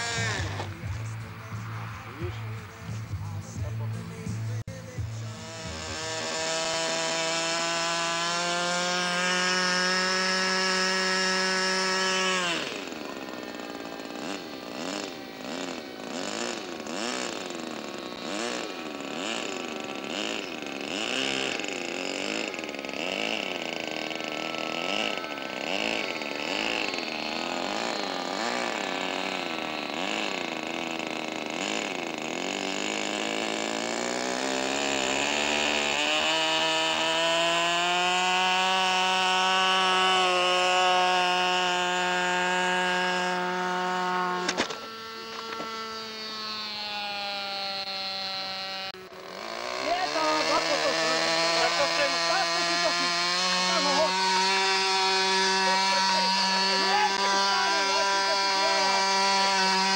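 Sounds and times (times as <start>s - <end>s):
model airplane engine running: 0.0s - 59.9s.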